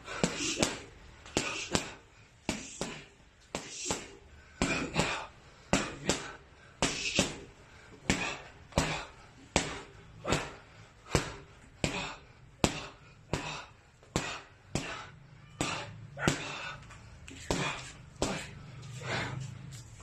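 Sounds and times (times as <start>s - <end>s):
boxing glove punches slapping: 0.1s - 19.3s.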